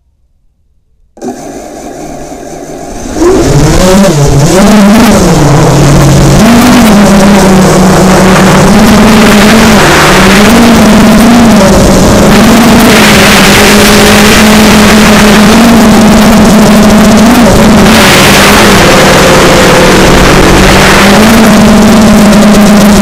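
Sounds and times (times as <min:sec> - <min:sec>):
drone motors buzzing: 0:01.2 - 0:23.0.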